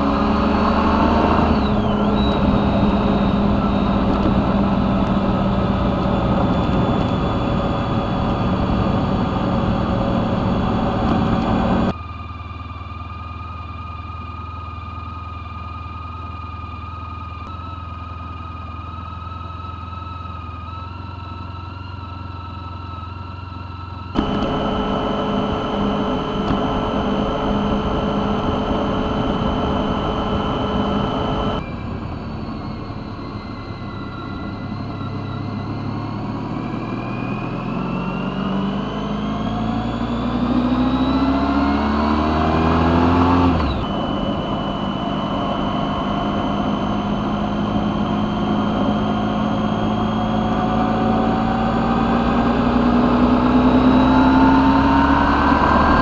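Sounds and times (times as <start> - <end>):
motorcycle engine: 0.0 - 56.0
road and wind noise: 0.0 - 56.0.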